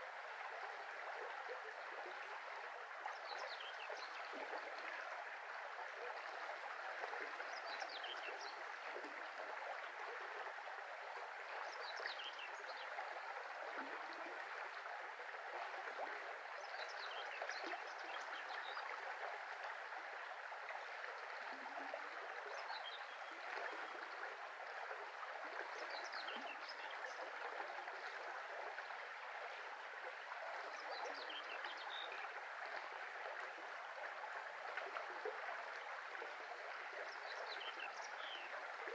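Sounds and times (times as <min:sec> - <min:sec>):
brook flowing: 0:00.0 - 0:38.9.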